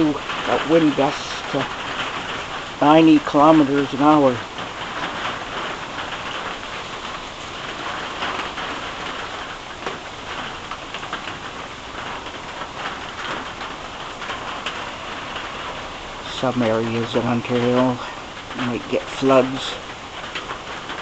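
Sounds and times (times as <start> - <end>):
heavy rain on a tin roof: 0.0 - 21.0.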